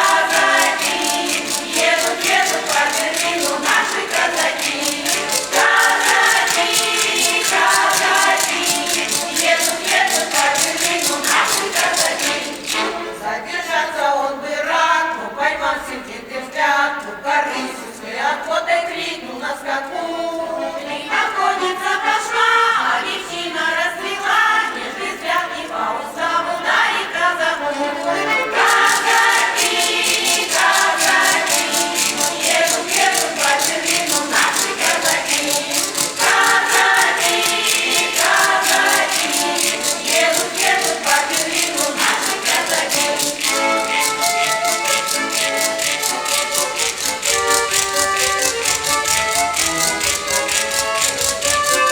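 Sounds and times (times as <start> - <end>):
shaker rattling: 0.0 - 13.8, 23.0 - 51.9
choir singing: 0.0 - 51.9.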